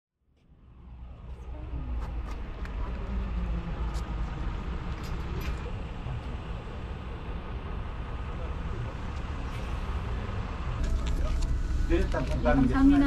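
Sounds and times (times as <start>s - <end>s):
low outdoor rumble: 0.2s - 13.0s.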